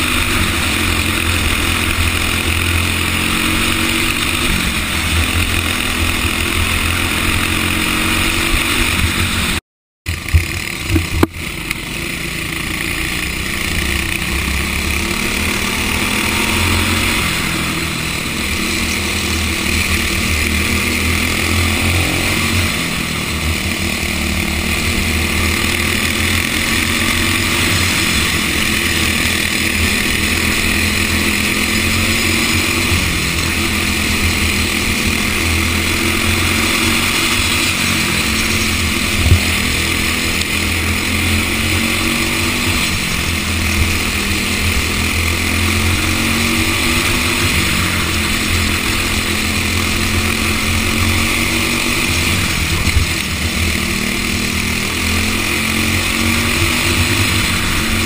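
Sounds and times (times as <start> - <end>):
motor vehicle running: 0.0 - 58.0.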